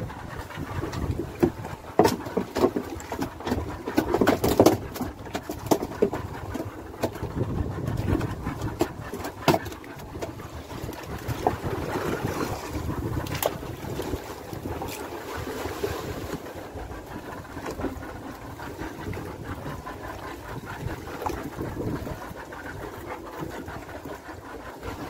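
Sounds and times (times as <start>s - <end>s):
boat engine rumble: 0.0s - 25.0s.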